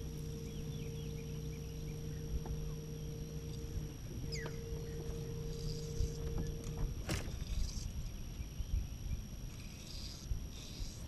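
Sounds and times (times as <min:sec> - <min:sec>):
faint bird chirps: 0:00.0 - 0:11.0
trolling motor electric hum: 0:00.0 - 0:11.0.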